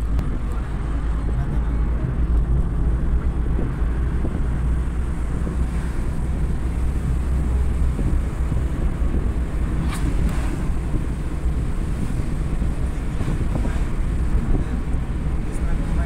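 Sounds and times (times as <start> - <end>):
car driving rumble inside cabin: 0.0 - 16.0.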